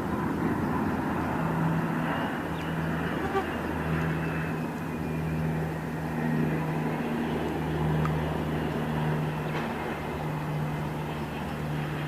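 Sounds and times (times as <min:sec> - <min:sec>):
broad rushing noise: 0:00.0 - 0:12.0
low engine hum: 0:00.0 - 0:12.0.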